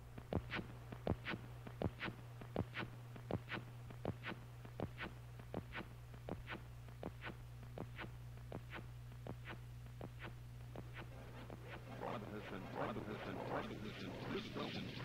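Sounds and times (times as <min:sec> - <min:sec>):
low electronic hum: 0:00.0 - 0:15.0.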